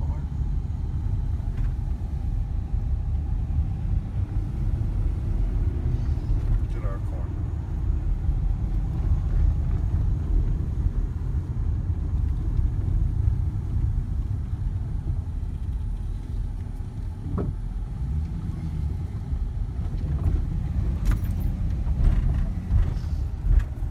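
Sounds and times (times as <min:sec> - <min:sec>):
engine and road rumble: 0:00.0 - 0:23.9.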